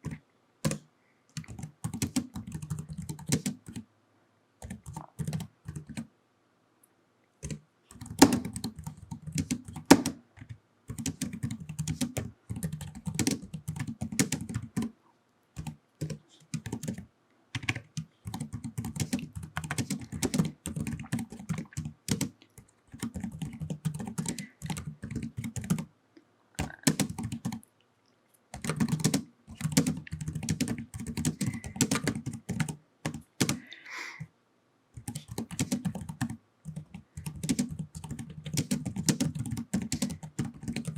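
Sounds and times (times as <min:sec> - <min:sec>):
keyboard typing clacks: 0:00.0 - 0:03.8, 0:04.6 - 0:06.1, 0:07.4 - 0:14.9, 0:15.6 - 0:25.9, 0:26.6 - 0:27.6, 0:28.6 - 0:33.6, 0:35.0 - 0:40.9.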